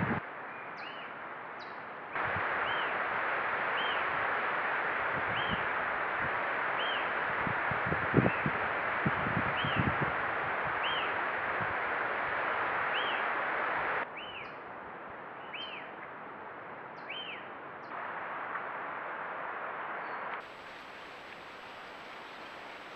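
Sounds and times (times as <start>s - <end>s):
steady outdoor hiss: 0.0s - 22.9s.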